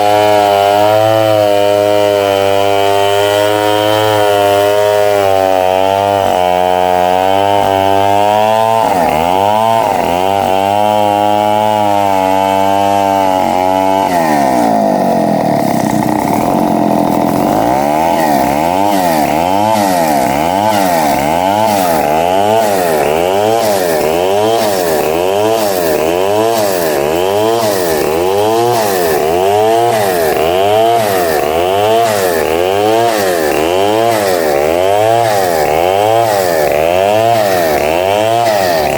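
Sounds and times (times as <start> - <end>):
bandsaw cutting timber: 0.0 - 38.9.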